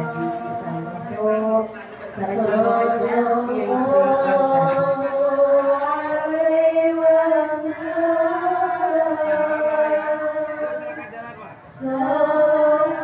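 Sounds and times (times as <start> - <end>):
group chanting devotional song: 0.0 - 13.0.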